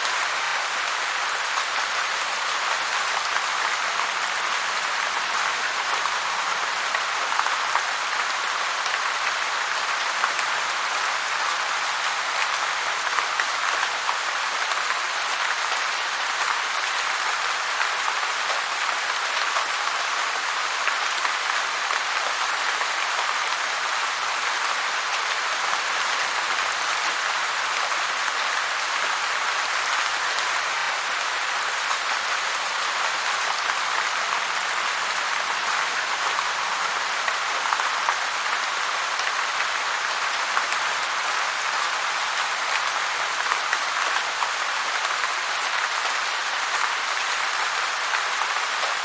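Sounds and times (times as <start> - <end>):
heavy rain: 0.0 - 49.0.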